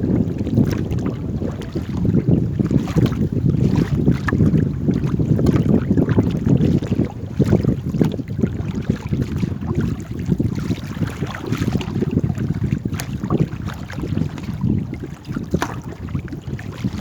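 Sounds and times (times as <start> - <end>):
boat being paddled on water: 0.0 - 17.0
wind buffeting microphone: 0.0 - 17.0.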